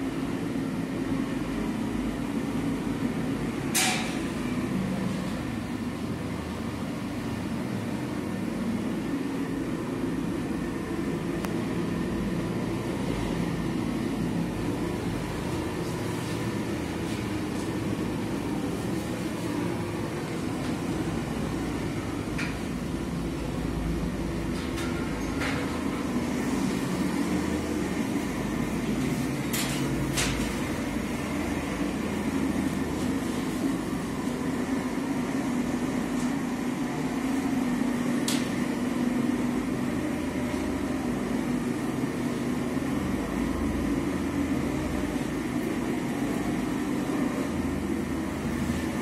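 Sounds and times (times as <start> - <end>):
heat gun fan and burner: 0.0 - 49.0.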